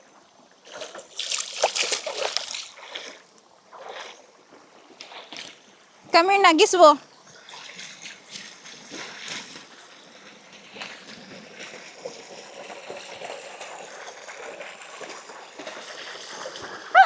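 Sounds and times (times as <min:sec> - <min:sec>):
shallow river water running: 0:00.0 - 0:17.0
soft water splashes: 0:00.4 - 0:17.0.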